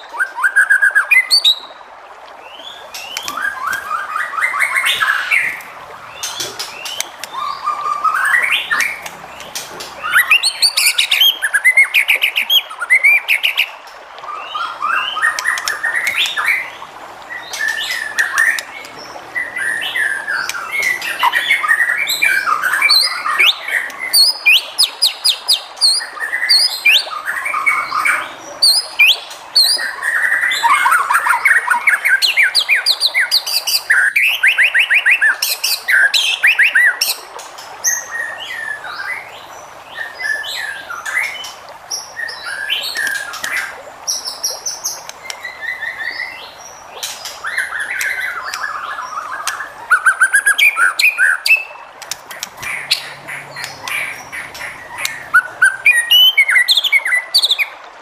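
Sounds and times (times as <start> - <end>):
bird singing varied song: 0.0 - 57.8.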